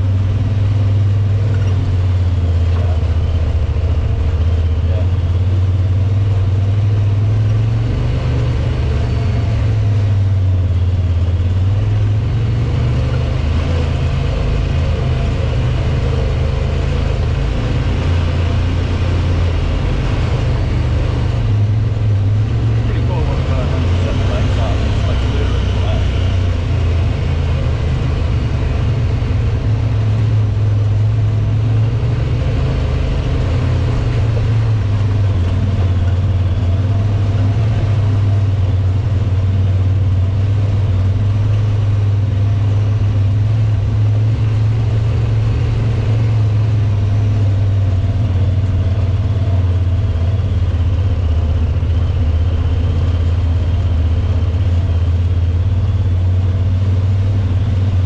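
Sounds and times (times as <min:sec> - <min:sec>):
utility vehicle engine droning: 0:00.0 - 0:58.0.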